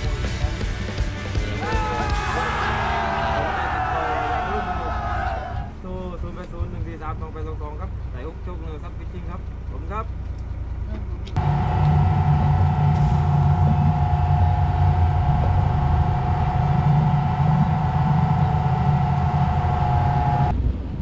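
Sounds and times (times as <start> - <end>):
boat engine rumbling: 0.0 - 20.6
engine whine: 0.0 - 21.0.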